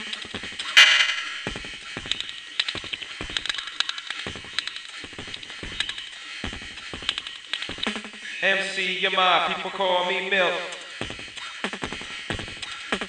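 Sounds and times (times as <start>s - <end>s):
beatboxing: 0.0s - 13.0s.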